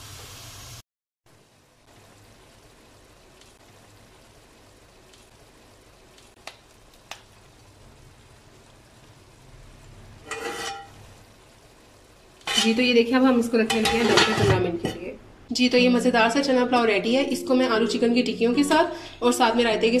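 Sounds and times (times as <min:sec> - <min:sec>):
pot bubbling: 0:01.3 - 0:19.1.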